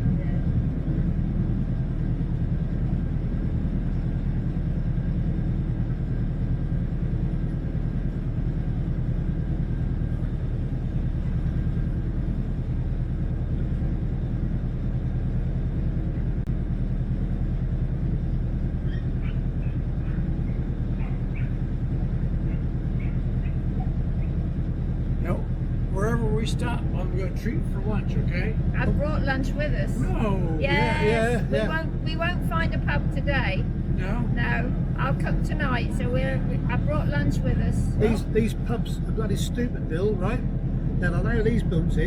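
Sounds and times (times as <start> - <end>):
motor boat engine droning: 0.0 - 42.0.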